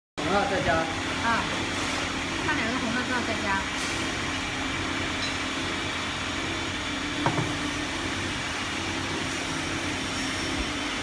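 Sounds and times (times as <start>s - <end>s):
furnace hum and hiss: 0.2s - 11.0s.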